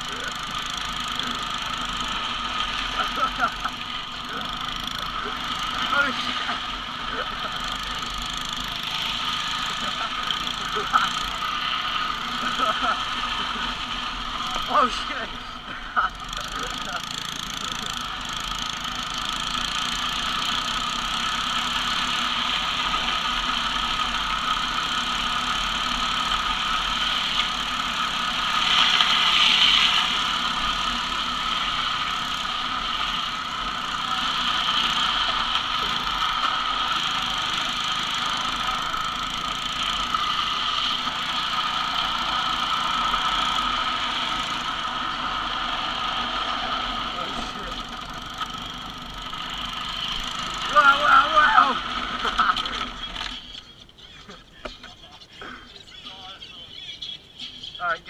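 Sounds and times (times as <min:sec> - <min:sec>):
toy wheels rumbling on asphalt: 0:00.0 - 0:57.7
dirt bike engine running: 0:00.0 - 0:58.0.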